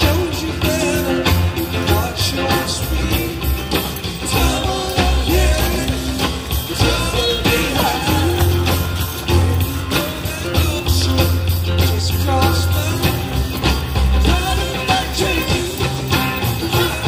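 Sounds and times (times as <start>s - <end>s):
music with singing and beat: 0.0s - 17.0s.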